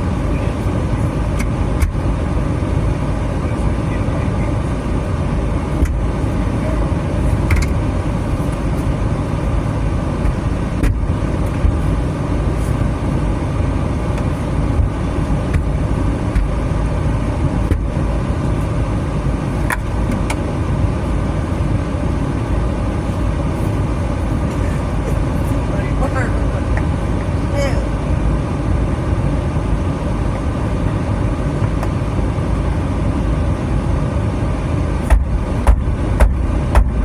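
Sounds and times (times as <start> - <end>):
minivan road and engine rumble: 0.0 - 37.0.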